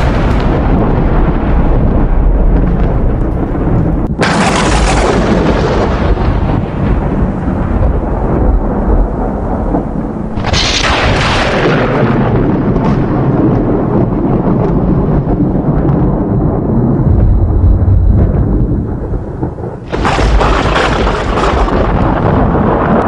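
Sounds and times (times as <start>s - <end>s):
rolling thunder rumble: 0.0s - 23.0s
sharp thunderclap crack: 0.0s - 23.0s.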